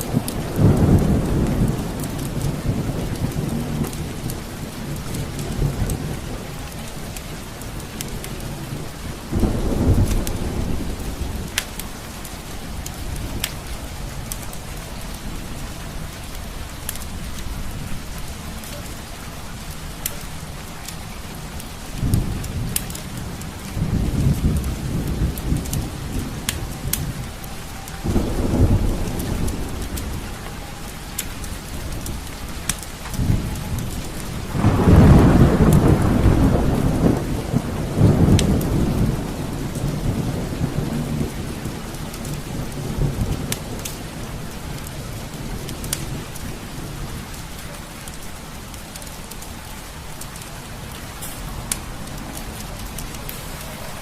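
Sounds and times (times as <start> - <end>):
rumbling thunder: 0.0 - 54.0
steady rain: 0.0 - 54.0.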